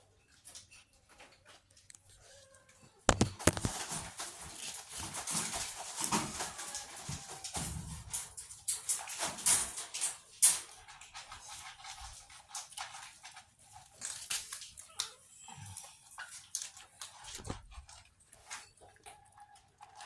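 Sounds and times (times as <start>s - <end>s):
cats crunching dry food: 0.2s - 20.0s.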